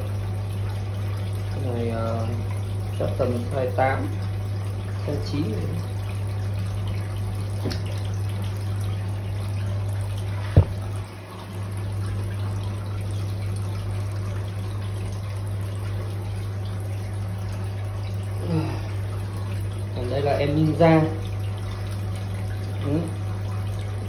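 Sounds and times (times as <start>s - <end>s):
water pouring into tank: 0.0s - 24.0s.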